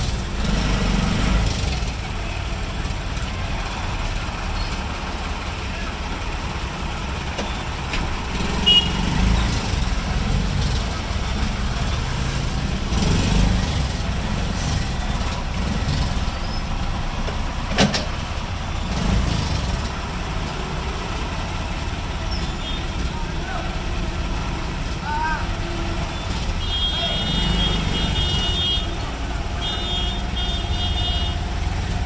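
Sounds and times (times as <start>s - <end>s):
auto-rickshaw engine rumbling: 0.0s - 32.0s.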